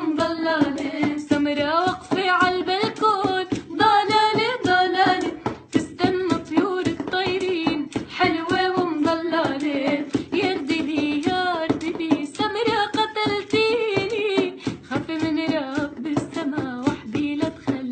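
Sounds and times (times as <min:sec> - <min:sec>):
hand-struck percussion beat: 0:00.0 - 0:17.9
woman singing folk melody: 0:00.0 - 0:17.9.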